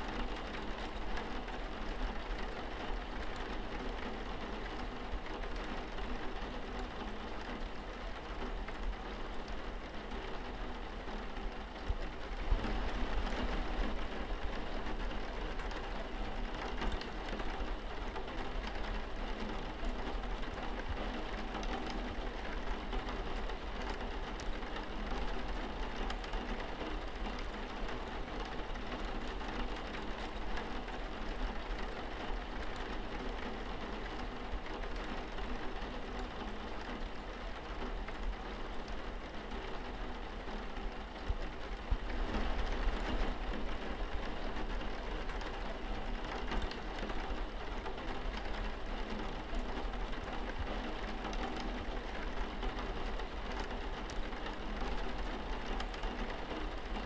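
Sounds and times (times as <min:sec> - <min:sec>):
rain on a window: 0:00.0 - 0:57.0.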